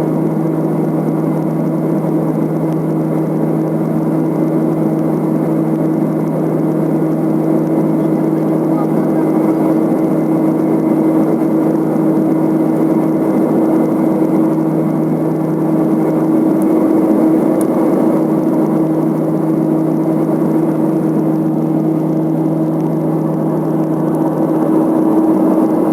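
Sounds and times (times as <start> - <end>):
turboprop engines droning: 0.0 - 25.9.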